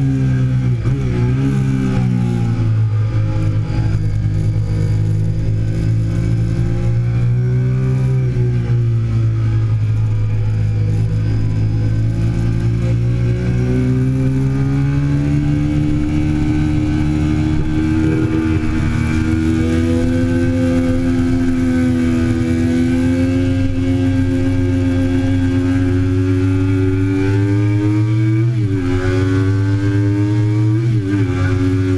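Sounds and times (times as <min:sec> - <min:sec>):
motorcycle engine running hard: 0:00.0 - 0:31.9.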